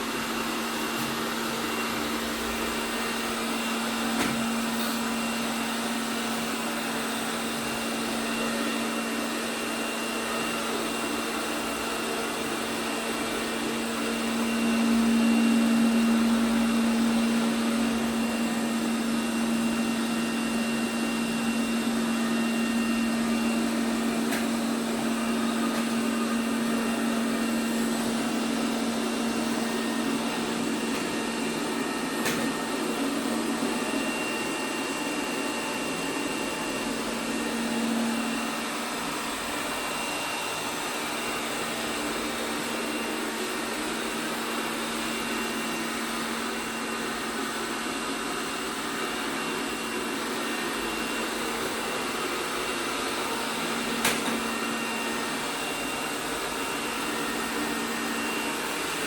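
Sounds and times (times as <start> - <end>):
robot vacuum humming: 0.0 - 59.0.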